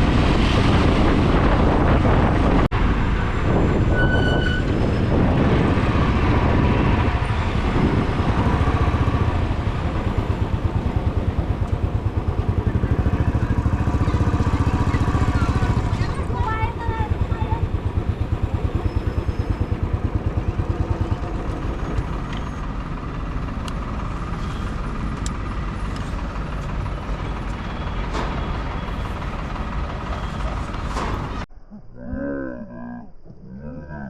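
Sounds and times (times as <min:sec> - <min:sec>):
engine and road noise: 0:00.0 - 0:31.5.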